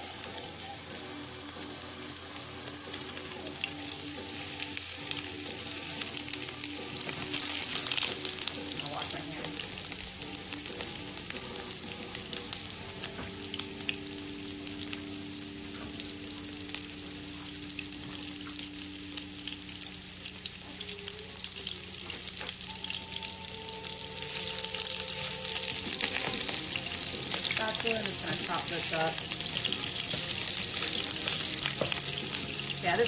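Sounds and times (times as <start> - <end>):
sausage sizzling in a frying pan: 0.0 - 33.0.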